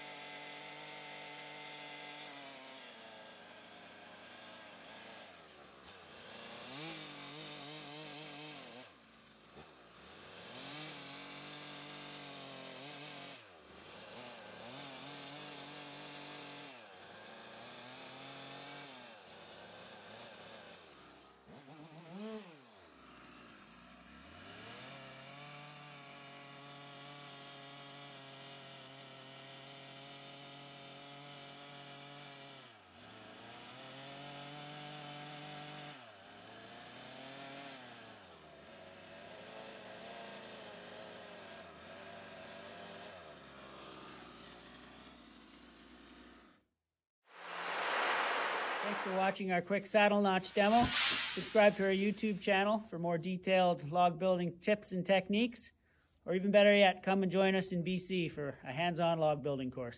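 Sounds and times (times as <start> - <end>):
chainsaw running: 0.0 - 46.7, 48.6 - 52.8.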